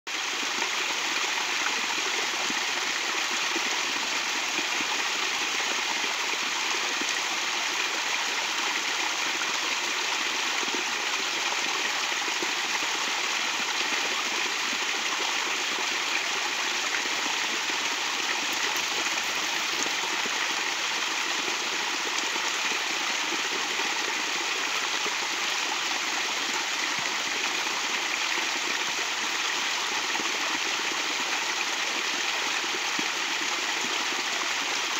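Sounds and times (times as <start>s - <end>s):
stream cascading over rocks: 0.1s - 34.9s.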